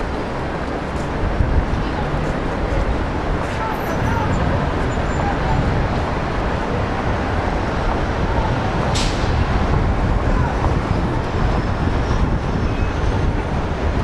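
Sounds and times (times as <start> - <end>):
rumble of passing vehicles: 0.0 - 14.0.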